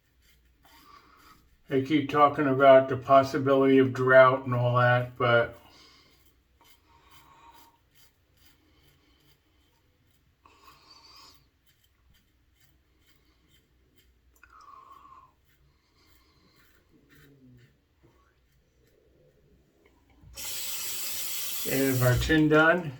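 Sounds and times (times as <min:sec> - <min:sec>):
razor scraping stubble: 0:00.0 - 0:22.8.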